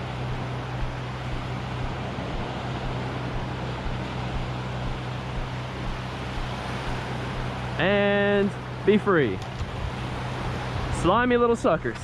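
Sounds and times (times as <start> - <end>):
low hum: 0.0 - 12.0
surf rushing: 0.0 - 12.0.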